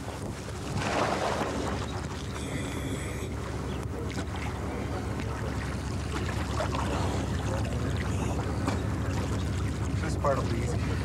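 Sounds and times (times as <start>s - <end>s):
steady low hum: 0.0s - 11.0s
water sloshing and splashing: 0.2s - 11.0s.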